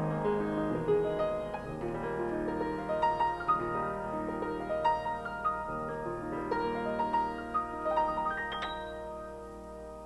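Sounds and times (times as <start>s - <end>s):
piano playing: 0.0s - 10.0s.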